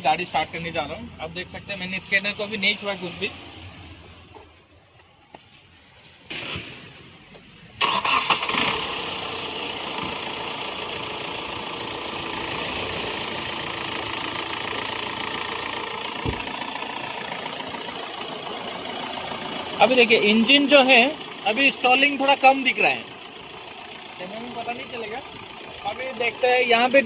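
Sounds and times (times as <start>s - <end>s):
car engine starting and idling: 0.0s - 27.0s.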